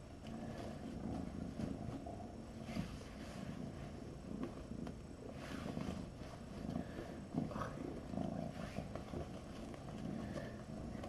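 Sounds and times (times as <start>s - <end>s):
kitten purring: 0.0s - 11.0s.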